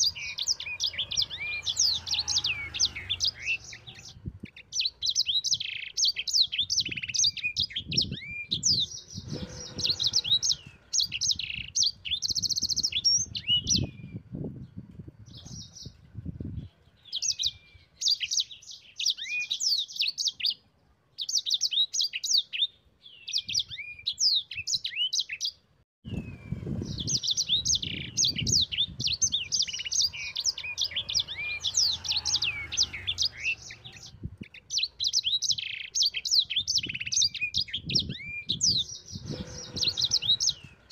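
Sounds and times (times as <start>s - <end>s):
canary singing chirps and trills: 0.0s - 40.9s.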